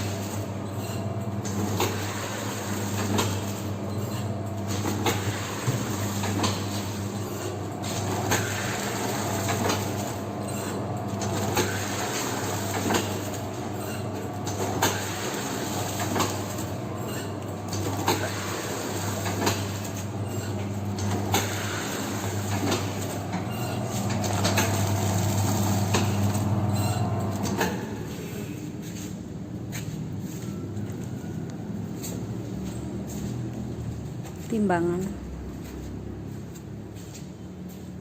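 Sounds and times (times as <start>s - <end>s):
packing machine humming: 0.0s - 38.0s.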